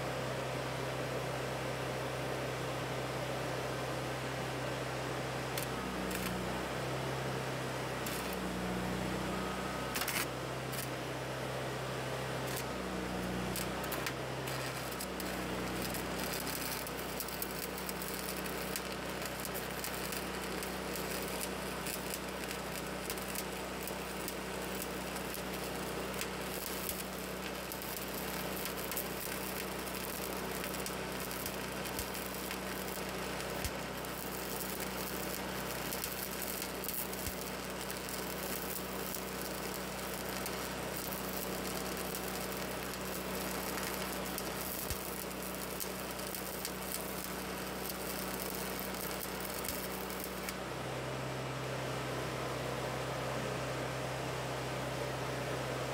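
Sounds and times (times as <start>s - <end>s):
welding arc crackling: 5.5s - 50.8s
low hum: 5.5s - 55.9s.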